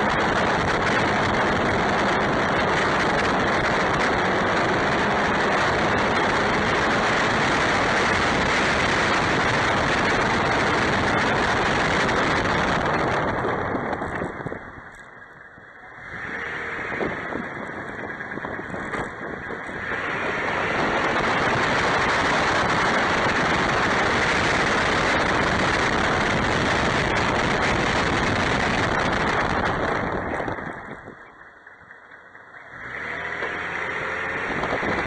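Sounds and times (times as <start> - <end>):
truck engine and road noise: 0.0 - 35.0.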